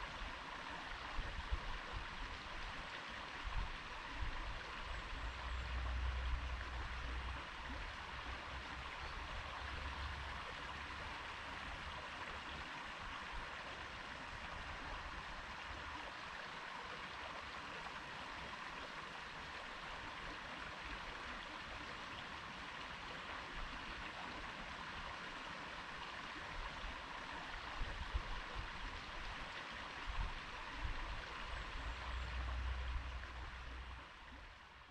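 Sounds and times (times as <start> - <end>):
stream flowing: 0.0 - 34.9.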